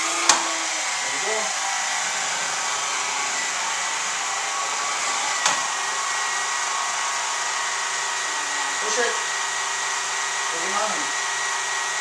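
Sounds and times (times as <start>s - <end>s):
sweeper motor whirring: 0.0s - 12.0s.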